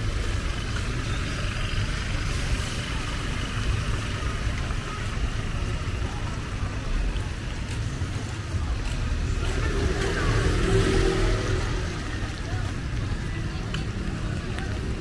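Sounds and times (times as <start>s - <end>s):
passing traffic rumble: 0.0s - 15.0s
wet road noise: 0.0s - 15.0s.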